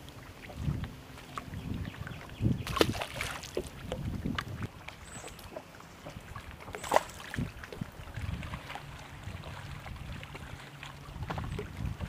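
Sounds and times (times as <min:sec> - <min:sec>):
small waves slapping boat hull: 0:00.0 - 0:12.0.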